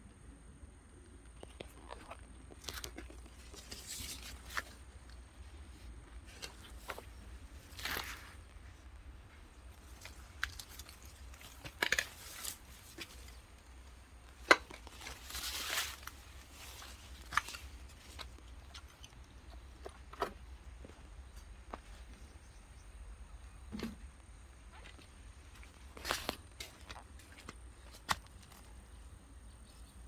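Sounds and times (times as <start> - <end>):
low steady hum: 0.0 - 30.0
rustles: 1.1 - 29.9.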